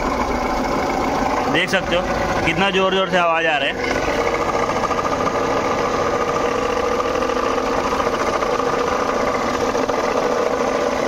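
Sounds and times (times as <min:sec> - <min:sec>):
diesel engine running: 0:00.0 - 0:11.0
rumbling clatter from alternator pulley: 0:00.0 - 0:11.0.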